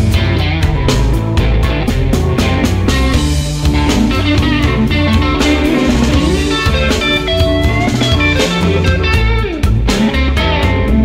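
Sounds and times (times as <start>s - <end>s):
blues-rock music: 0.0s - 11.0s.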